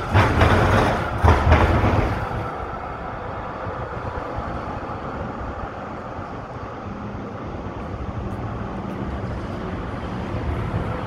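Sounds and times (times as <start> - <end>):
street traffic noise: 0.0 - 11.0
tram running on rails: 0.0 - 11.0.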